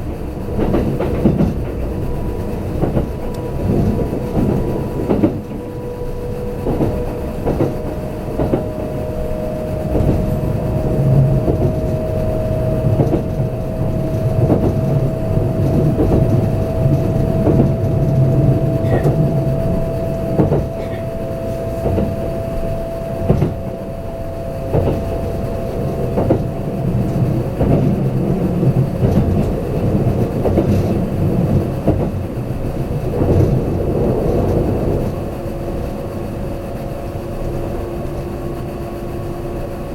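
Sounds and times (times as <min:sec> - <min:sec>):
steady whine: 0:00.0 - 0:39.9
train low rumble: 0:00.0 - 0:39.9.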